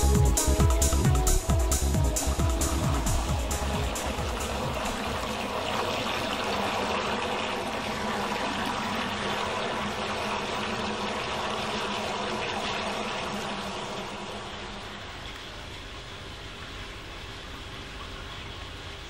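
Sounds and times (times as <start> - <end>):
water rushing into drain: 1.6 - 19.0.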